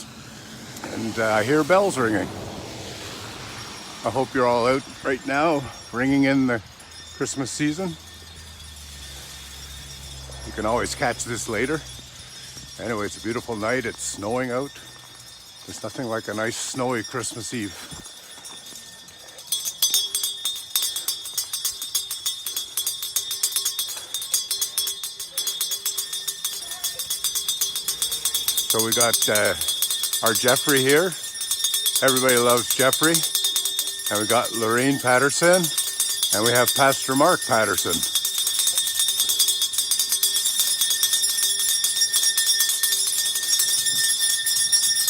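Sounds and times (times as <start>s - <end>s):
hand bells ringing rapidly: 0.0s - 45.0s.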